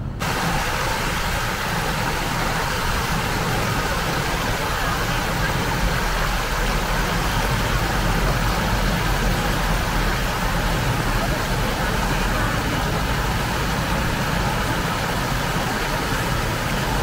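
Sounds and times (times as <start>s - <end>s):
water rushing over weir: 0.0s - 17.0s.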